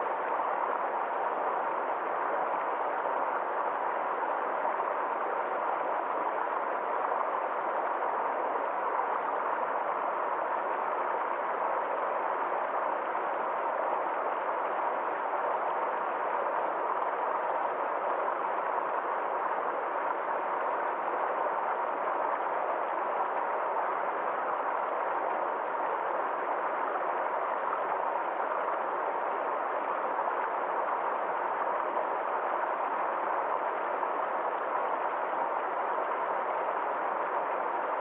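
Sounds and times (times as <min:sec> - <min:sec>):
stream over small waterfall: 0:00.0 - 0:38.0.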